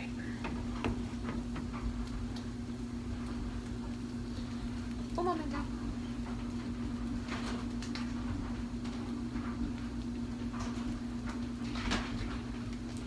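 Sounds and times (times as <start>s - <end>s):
appliance electrical hum: 0.0s - 13.0s.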